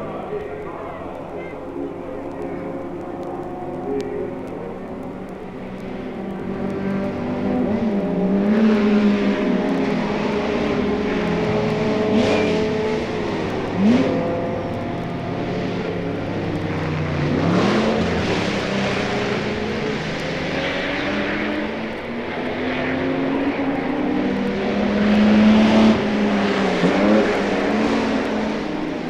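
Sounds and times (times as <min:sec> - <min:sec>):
racing cars passing: 0:00.0 - 0:29.0.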